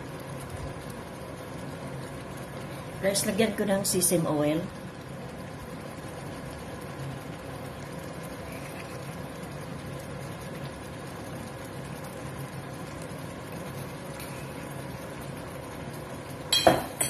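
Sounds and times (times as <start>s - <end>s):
curry simmering in a frying pan: 0.0s - 17.0s.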